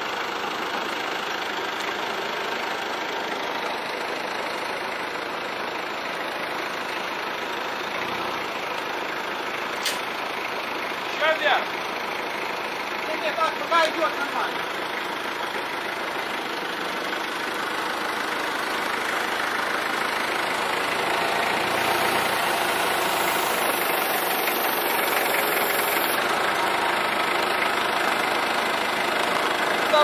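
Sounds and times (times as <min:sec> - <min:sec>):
vehicle engine running: 0:00.0 - 0:30.0
road noise: 0:00.6 - 0:30.0.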